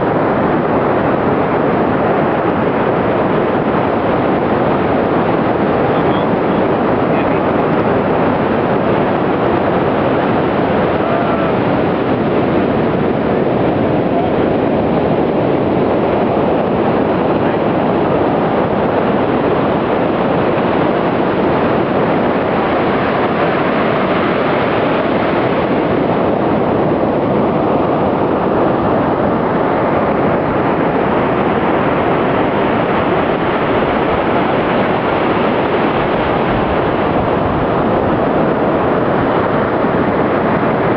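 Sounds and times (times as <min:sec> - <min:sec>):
ocean surf breaking: 0:00.0 - 0:40.9
wind on microphone: 0:00.0 - 0:40.9.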